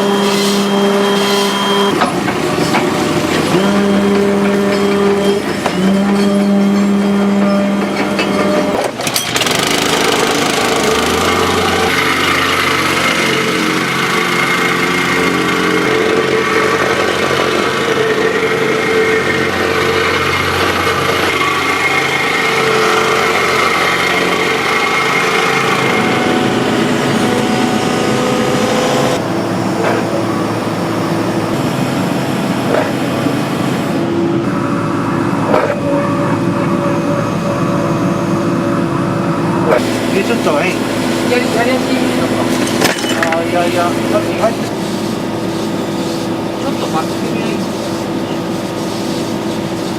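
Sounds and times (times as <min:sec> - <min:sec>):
excavator diesel engine and hydraulics: 0:00.0 - 0:49.9.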